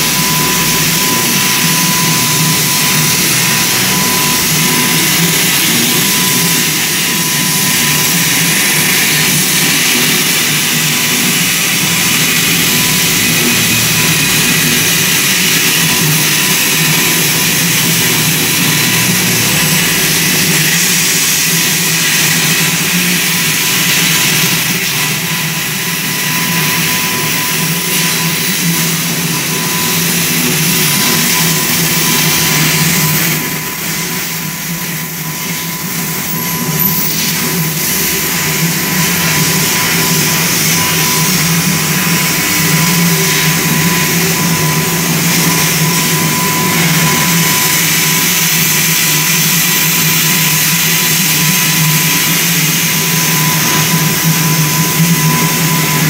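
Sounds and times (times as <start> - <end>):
plasma torch hissing: 0.0 - 56.0.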